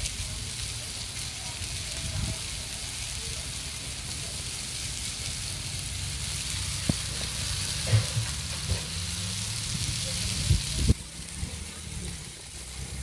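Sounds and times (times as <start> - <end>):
vegetables sizzling on a griddle: 0.0 - 13.0.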